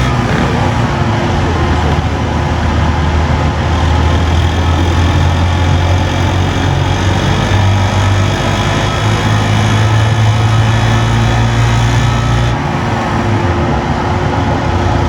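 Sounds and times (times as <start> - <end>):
cooling fan blowing: 0.0 - 15.0
small motorcycle engine humming: 0.0 - 15.0.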